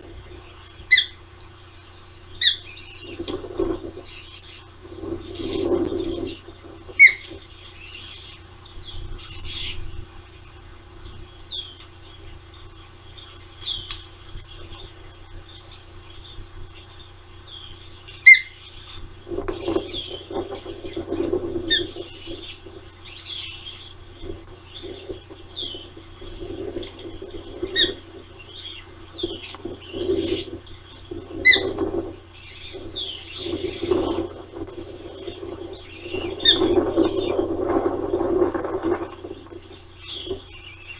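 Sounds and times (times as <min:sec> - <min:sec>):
birds chirping: 0:00.0 - 0:40.9
low rough noise: 0:00.0 - 0:40.9
steady low hum: 0:00.0 - 0:40.9.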